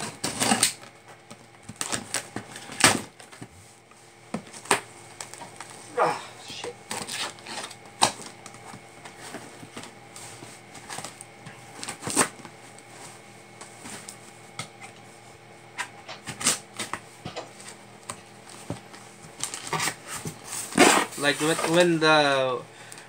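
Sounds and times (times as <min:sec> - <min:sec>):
cardboard and tape rustling: 0:00.0 - 0:23.0.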